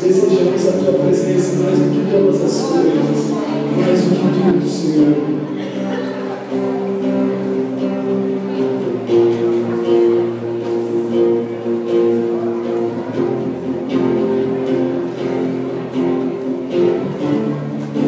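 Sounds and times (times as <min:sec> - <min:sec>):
guitar playing sustained chords: 0:00.0 - 0:18.0.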